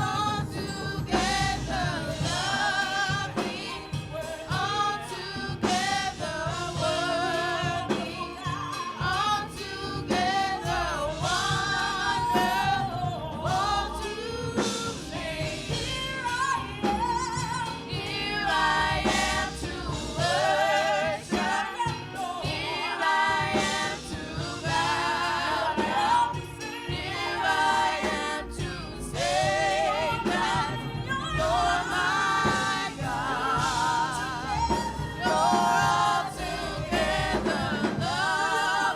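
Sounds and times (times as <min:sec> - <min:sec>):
band accompaniment: 0:00.0 - 0:38.9
gospel singers with vibrato: 0:00.0 - 0:38.9.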